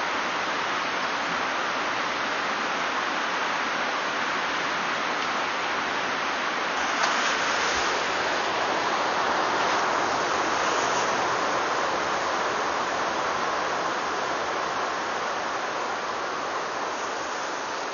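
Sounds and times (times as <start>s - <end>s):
white-water rapids rushing: 0.0s - 17.9s.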